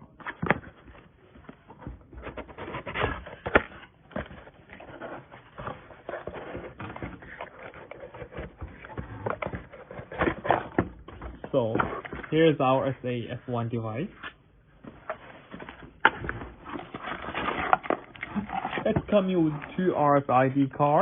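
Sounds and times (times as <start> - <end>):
cardboard packaging rustling: 0.0 - 12.9, 14.8 - 19.9.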